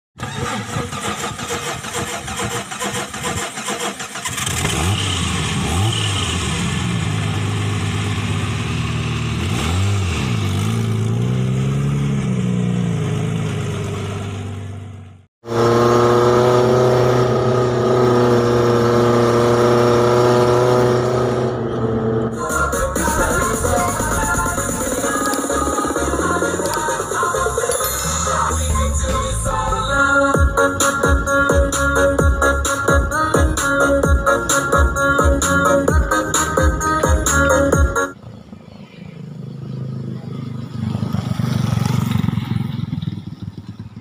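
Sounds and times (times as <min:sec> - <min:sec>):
vehicle engine revving: 0:00.2 - 0:38.5, 0:39.2 - 0:44.0.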